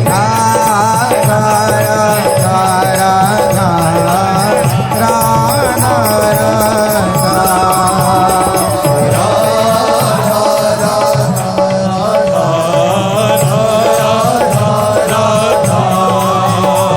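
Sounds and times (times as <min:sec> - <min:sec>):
instrumental backing: 0:00.0 - 0:16.9
person singing devotional melody: 0:00.0 - 0:16.9.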